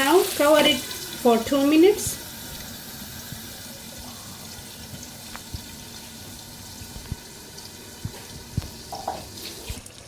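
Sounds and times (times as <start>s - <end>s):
curry sizzling in covered pan: 0.0s - 10.0s.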